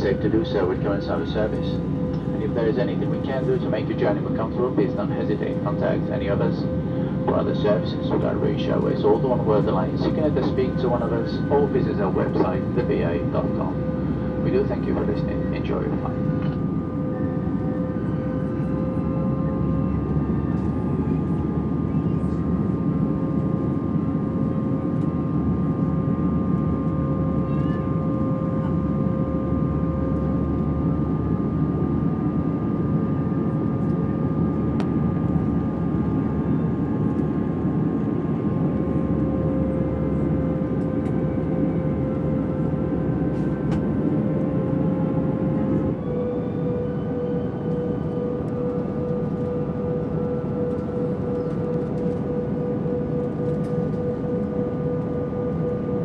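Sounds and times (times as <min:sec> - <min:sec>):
jet engine roar in cabin: 0:00.0 - 0:56.0.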